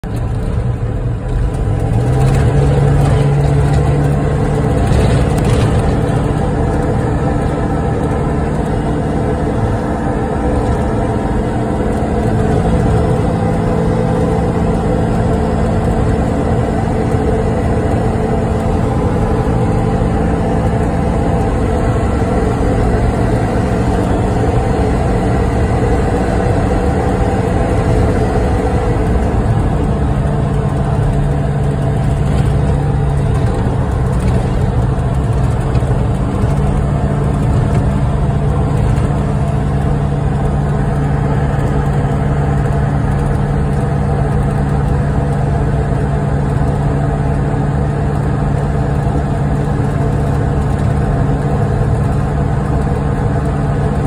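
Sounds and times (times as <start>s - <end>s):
tyre and road noise: 0.0s - 54.0s
vehicle engine hum: 0.0s - 54.0s.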